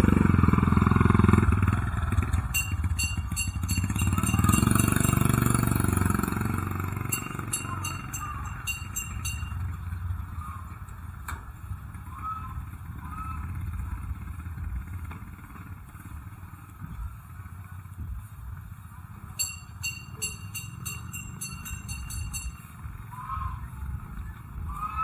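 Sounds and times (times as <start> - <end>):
motorcycle engine running: 0.0 - 24.9
street noise: 0.0 - 25.0.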